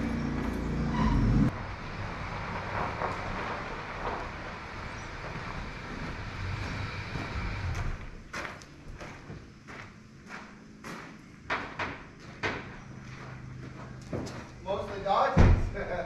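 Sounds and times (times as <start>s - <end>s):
engine running: 0.0s - 14.6s
outdoor background noise: 0.0s - 16.0s.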